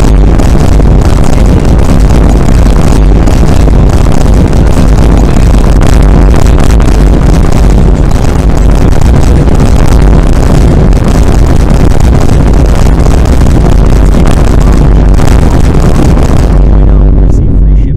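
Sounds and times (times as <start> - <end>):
distorted bass boom effects: 0.0 - 17.9.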